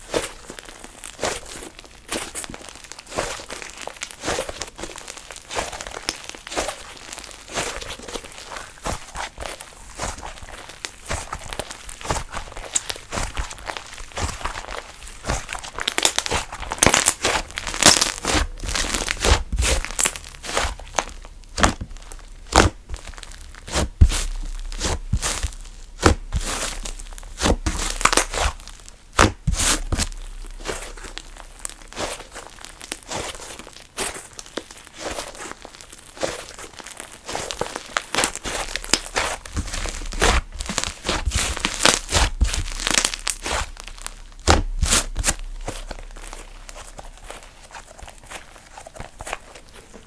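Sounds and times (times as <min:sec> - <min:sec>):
slime crackling and popping: 0:00.0 - 0:50.0.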